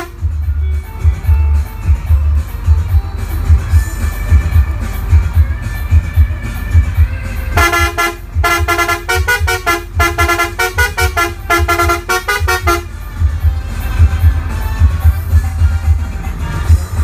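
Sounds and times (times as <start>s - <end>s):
bus musical horn: 0.0s - 0.4s, 3.8s - 17.0s
music with heavy bass beat: 0.0s - 17.0s.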